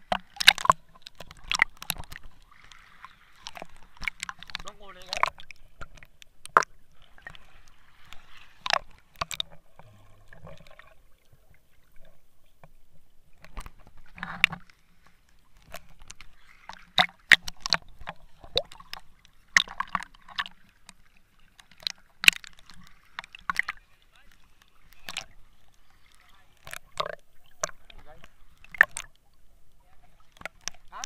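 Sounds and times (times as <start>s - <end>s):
water sloshing and gurgling: 0.0s - 31.0s
water splashes: 0.0s - 31.0s.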